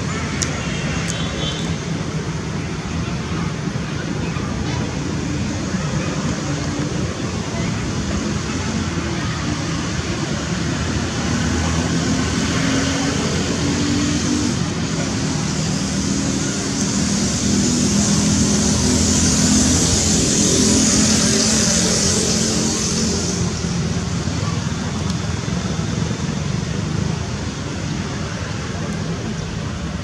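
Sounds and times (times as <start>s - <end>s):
road traffic noise: 0.0s - 30.0s
engine running close by: 4.6s - 30.0s.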